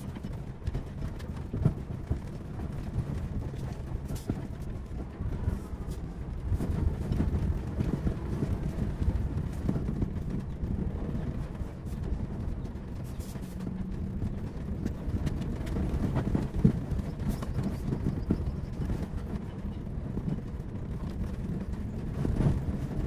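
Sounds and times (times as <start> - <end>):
vehicle rumbling on gravel: 0.0 - 23.0.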